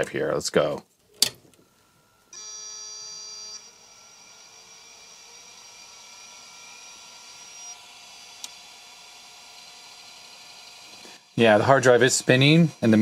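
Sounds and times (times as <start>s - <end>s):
hard drive whine: 1.4s - 13.0s.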